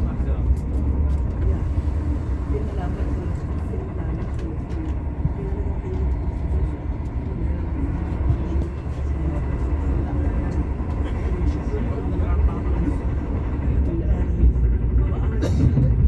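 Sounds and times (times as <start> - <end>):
faint voices: 0.0 - 16.0
moving vehicle rumble: 0.0 - 16.0.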